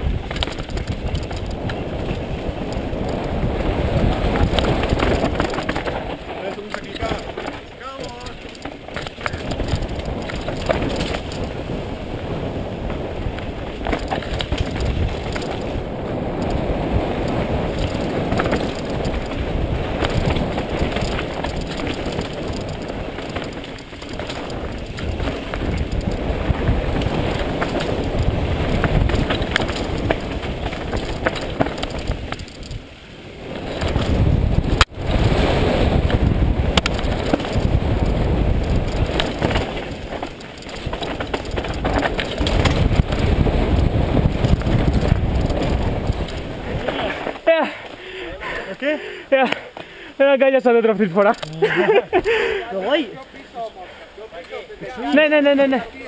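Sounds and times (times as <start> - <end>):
wind buffeting microphone: 0.0 - 50.1
mountain bike rattling on rocky trail: 0.0 - 56.0.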